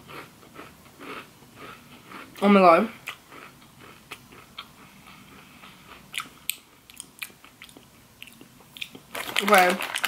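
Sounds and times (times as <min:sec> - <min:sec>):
person chewing biscuit: 0:00.0 - 0:02.4, 0:03.0 - 0:10.0.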